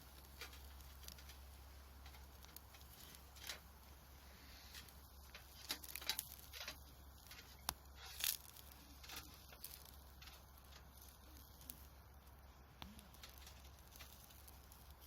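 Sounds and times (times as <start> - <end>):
campfire crackling: 0.0 - 15.0
fire popping and snapping: 0.0 - 15.0
steak sizzling on grill: 0.0 - 15.0.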